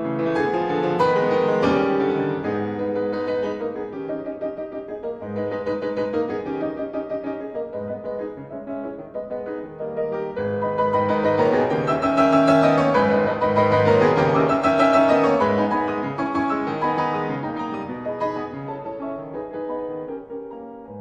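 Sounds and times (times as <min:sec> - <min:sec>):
calm piano music: 0:00.0 - 0:21.0.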